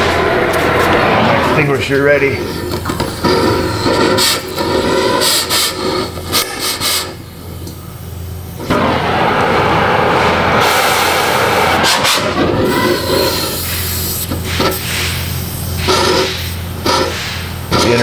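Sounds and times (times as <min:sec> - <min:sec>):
torch flame roaring: 0:00.0 - 0:17.5.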